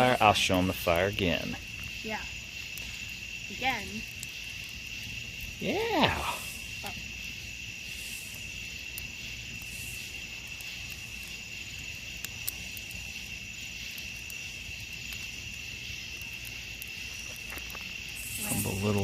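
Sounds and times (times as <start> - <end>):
faint ticks and snaps: 0.0 - 5.6, 7.8 - 19.0
crickets and insects trilling: 0.0 - 19.0.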